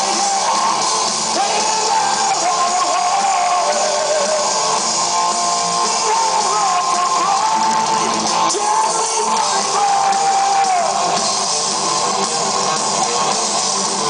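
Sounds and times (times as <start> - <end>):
power metal band playing live: 0.0 - 14.0.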